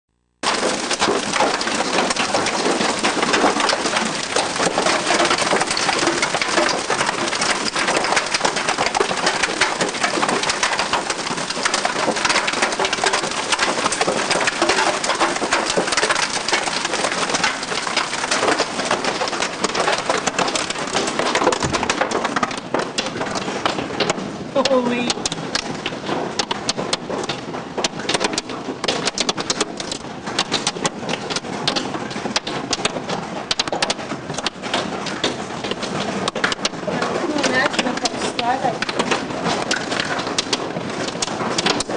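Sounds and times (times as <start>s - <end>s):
hail and rain pelting: 0.4s - 41.9s.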